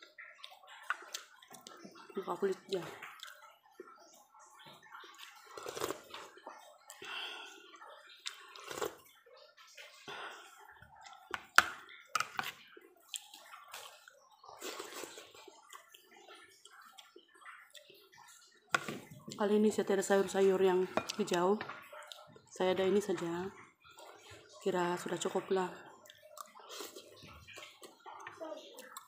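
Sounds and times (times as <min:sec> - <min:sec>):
wet chewing: 0:00.0 - 0:29.0.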